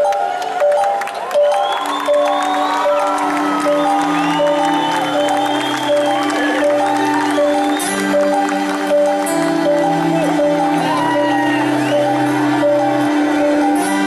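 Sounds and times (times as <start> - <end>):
live rock band playing: 2.2 - 14.0.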